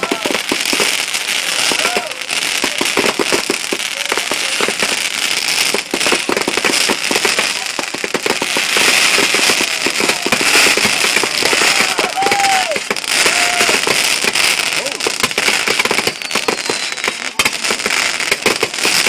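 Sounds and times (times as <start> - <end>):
firework whistles: 0.0 - 19.0
fireworks crackling bangs: 0.0 - 19.0.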